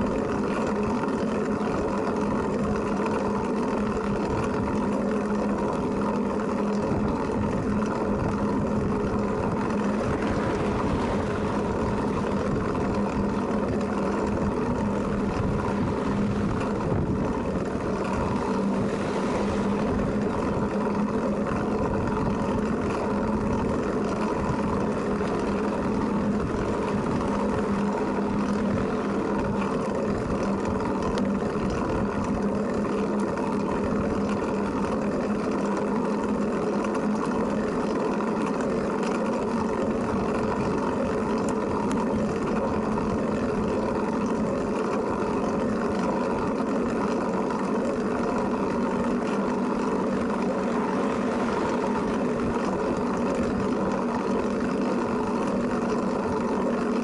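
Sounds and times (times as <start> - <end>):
trike rolling rumble: 0.0 - 57.0.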